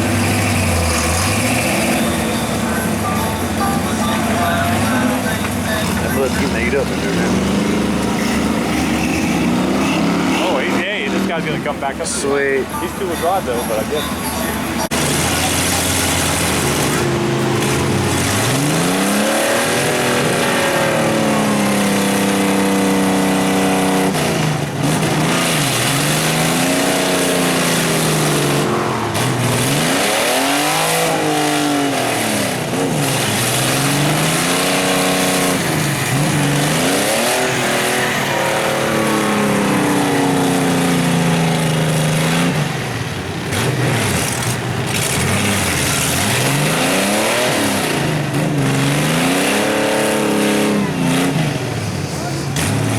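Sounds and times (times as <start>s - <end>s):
vehicle engine revving hard: 0.0s - 13.3s, 14.9s - 52.9s.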